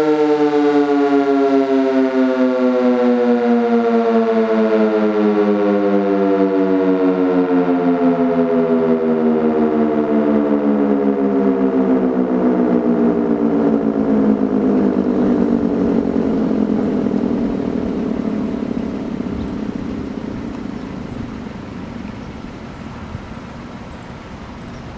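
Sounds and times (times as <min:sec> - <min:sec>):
two-tone warning siren winding down: 0:00.0 - 0:23.8.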